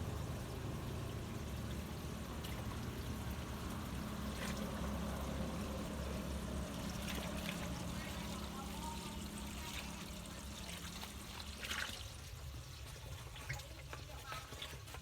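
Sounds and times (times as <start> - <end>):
water pouring: 0.2 - 15.0.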